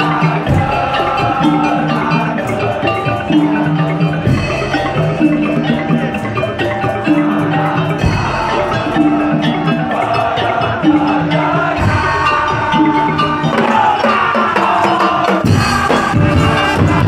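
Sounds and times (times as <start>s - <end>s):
mallet-struck percussion and drums: 0.0s - 17.0s.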